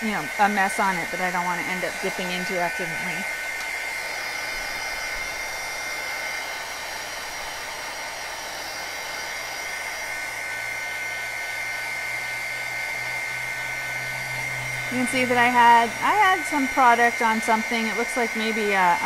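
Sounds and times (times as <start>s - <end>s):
heat gun blowing with whine: 0.0s - 19.0s.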